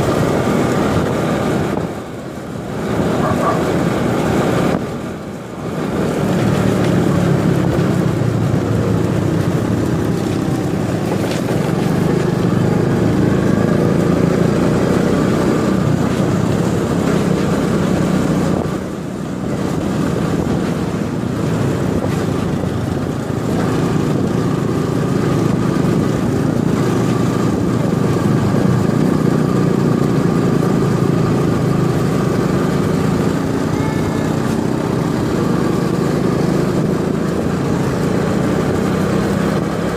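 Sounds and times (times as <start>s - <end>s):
motor scooter engine drone: 0.0s - 39.9s
road noise: 0.0s - 39.9s.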